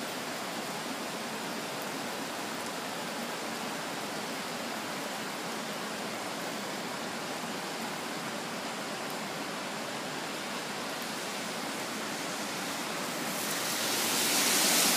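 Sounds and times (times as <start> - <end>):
river rushing: 0.0 - 14.9.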